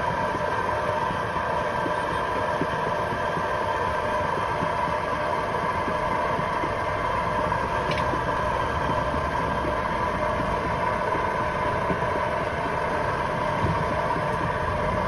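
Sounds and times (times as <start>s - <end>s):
oil mill mechanical drone: 0.0s - 15.0s.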